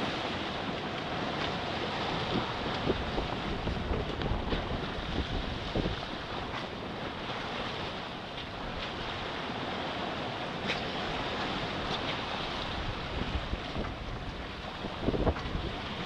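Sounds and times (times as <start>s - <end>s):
water splashing along boat hull: 0.0s - 16.0s
wind buffeting microphone: 0.0s - 16.0s.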